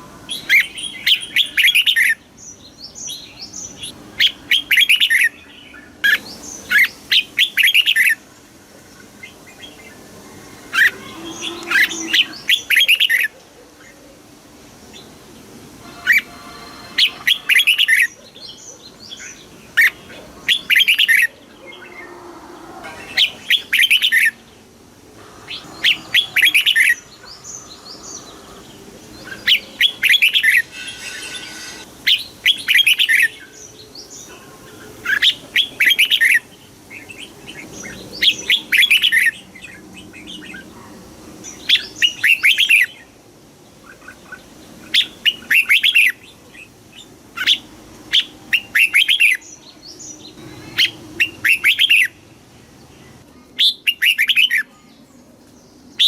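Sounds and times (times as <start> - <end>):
bird singing warbled phrases: 0.0 - 8.2, 9.0 - 14.0, 15.8 - 56.0.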